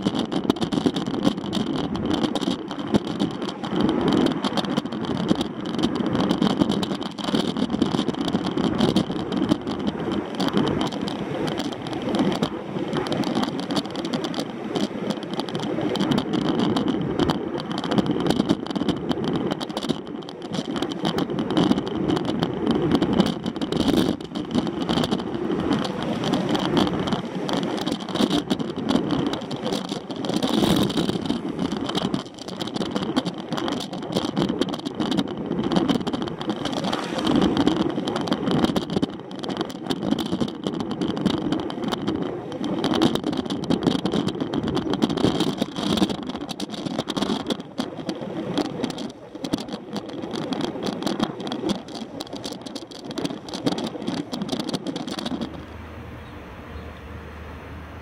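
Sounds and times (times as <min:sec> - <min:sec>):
bicycle rattles and clicks: 0:00.0 - 0:56.4
bicycle rolling road noise: 0:00.0 - 0:58.0.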